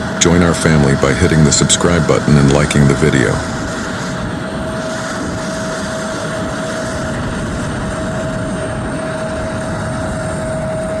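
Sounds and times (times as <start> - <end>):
jet engines rumbling: 0.0 - 11.0
steady engine whine: 0.0 - 11.0.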